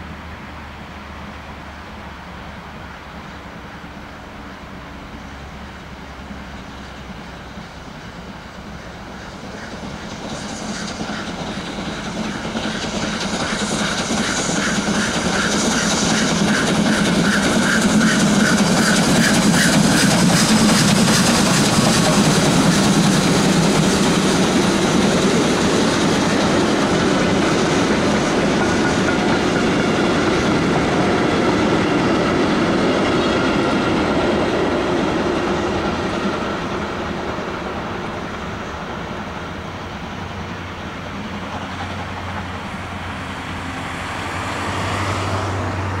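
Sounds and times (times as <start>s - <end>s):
train wheels clicking over rail joints: 6.9s - 46.0s.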